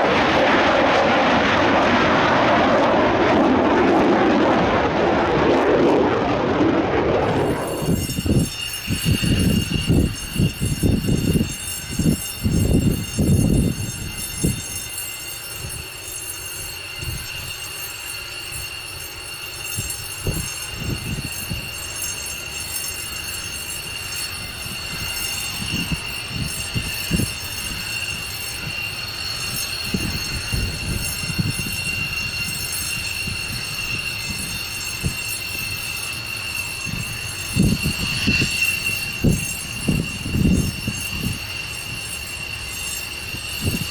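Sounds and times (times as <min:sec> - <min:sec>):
jet engine high-pitched whine: 0:00.0 - 0:43.9.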